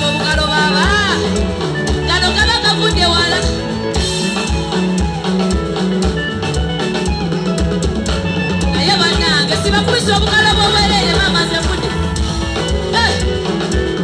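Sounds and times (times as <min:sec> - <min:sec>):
live band playing dance music: 0:00.0 - 0:14.0.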